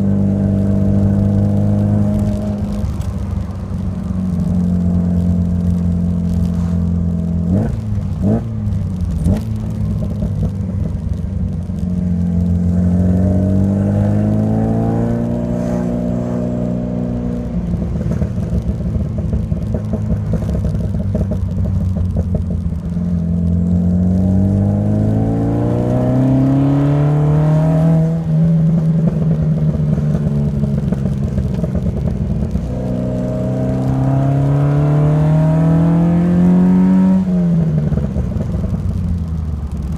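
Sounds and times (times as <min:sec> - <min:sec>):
car engine shifting through gears: 0:00.0 - 0:39.9.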